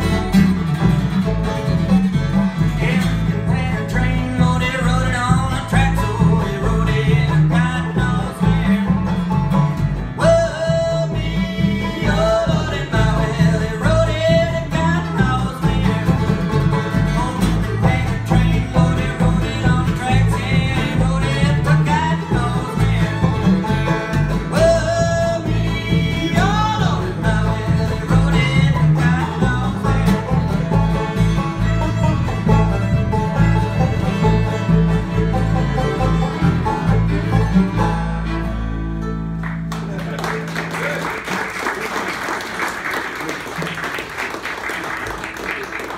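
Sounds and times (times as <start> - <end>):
bowed fiddle: 0.0 - 39.3
banjo: 0.0 - 41.1
upright bass: 0.0 - 42.2
acoustic guitars: 0.0 - 45.9.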